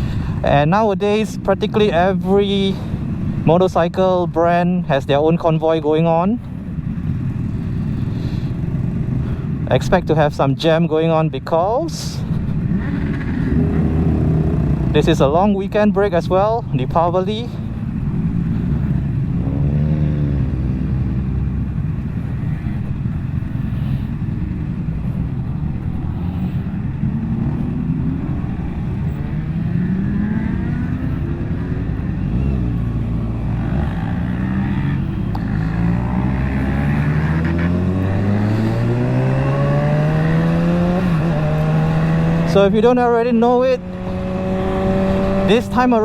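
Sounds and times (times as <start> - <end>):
motorcycle engines accelerating: 0.0 - 46.0.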